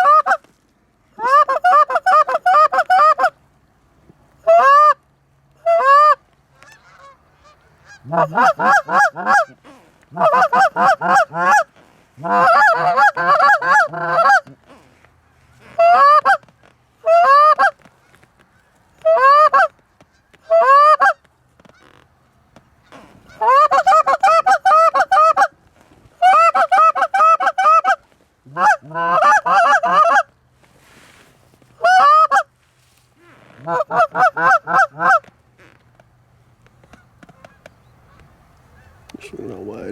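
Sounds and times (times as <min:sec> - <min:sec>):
goose honking: 0:00.0 - 0:00.4, 0:01.2 - 0:03.4, 0:04.4 - 0:05.0, 0:05.6 - 0:22.0, 0:22.8 - 0:25.5, 0:26.2 - 0:30.3, 0:31.8 - 0:32.5, 0:33.5 - 0:35.7, 0:36.8 - 0:39.8.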